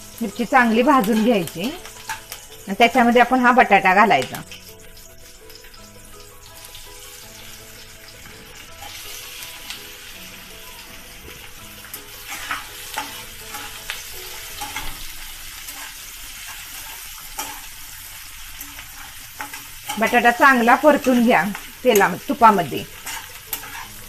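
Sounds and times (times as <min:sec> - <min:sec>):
potatoes sizzling in hot fat: 0:00.0 - 0:24.0
spatula scraping a pan: 0:00.2 - 0:10.2, 0:10.9 - 0:24.0.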